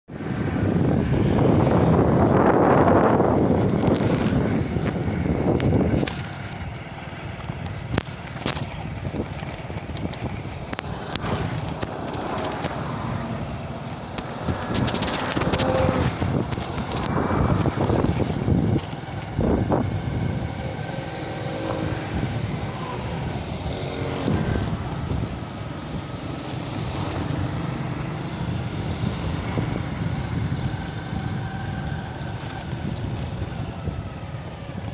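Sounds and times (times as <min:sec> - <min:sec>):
wind on microphone: 0:00.1 - 0:34.9
motorcycle engine: 0:00.2 - 0:34.9.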